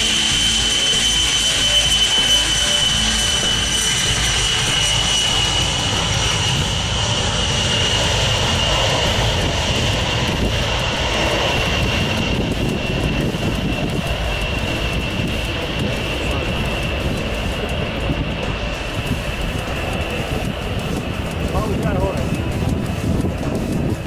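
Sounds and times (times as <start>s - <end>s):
jet aircraft engines running: 0.0s - 24.0s.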